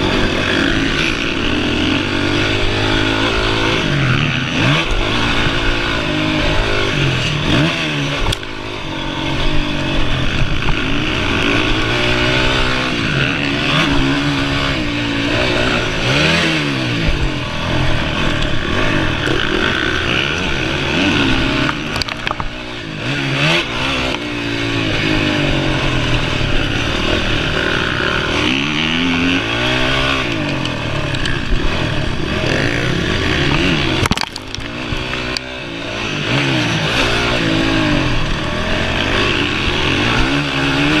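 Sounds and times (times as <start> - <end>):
motocross engine revving: 0.0 - 41.0.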